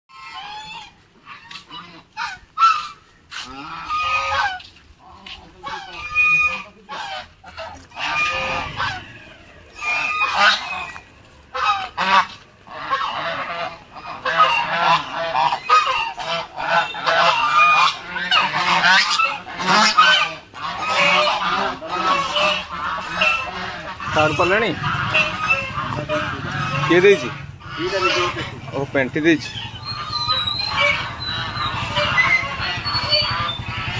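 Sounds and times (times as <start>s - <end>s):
geese honking: 0.1s - 33.9s.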